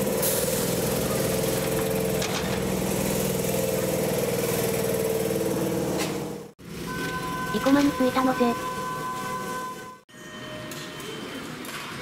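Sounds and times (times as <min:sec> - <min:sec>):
train machinery droning: 0:00.0 - 0:12.0.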